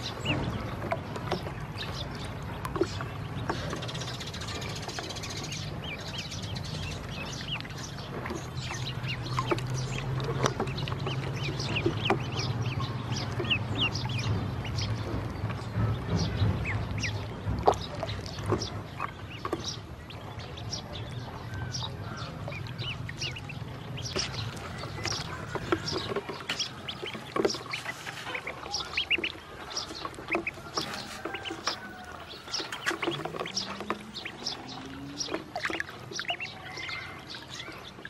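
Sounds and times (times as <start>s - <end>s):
low rumble: 0.0s - 30.8s
ducklings peeping: 0.0s - 38.0s
small water splashes: 0.0s - 38.0s.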